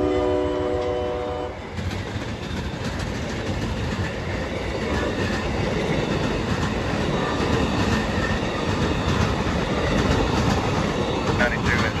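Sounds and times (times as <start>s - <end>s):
train wheels rumbling: 0.0s - 12.0s
wheels clacking over rail joints: 1.7s - 12.0s.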